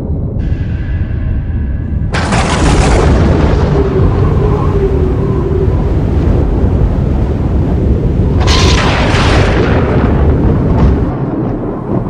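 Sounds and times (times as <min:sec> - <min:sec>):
deep thunder rumble: 0:00.0 - 0:12.0
sharp thunderclap: 0:02.0 - 0:12.0.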